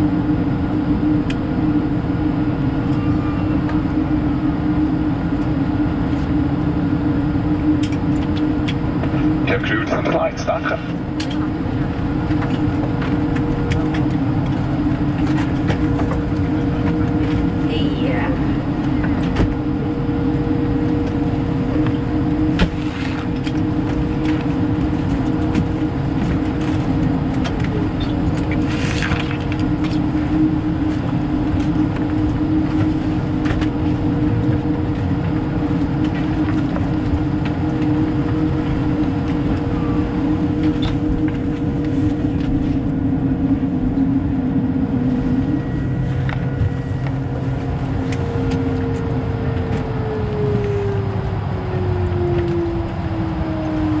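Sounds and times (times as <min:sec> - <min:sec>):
jet engines in aircraft cabin: 0:00.0 - 0:54.0.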